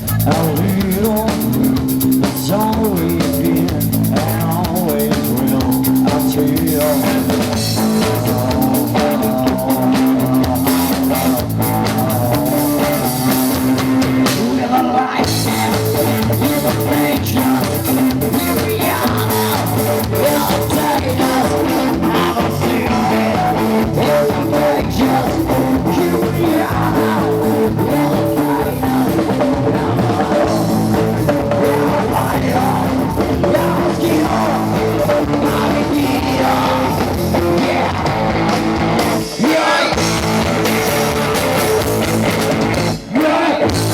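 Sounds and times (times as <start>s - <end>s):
drum kit beat: 0.0s - 43.9s
electric guitar: 0.0s - 43.9s.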